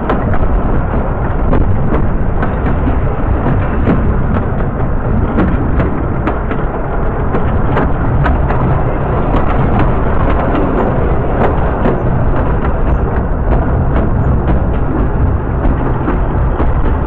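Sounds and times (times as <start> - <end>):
rail clicks and knocks: 0.0 - 17.0
train wheels rumbling: 0.0 - 17.0
wind buffeting microphone: 0.0 - 17.0.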